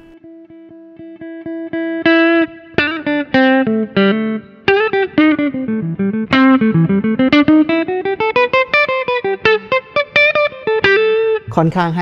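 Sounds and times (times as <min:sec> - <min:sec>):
electric guitar picked notes: 0:00.0 - 0:12.0.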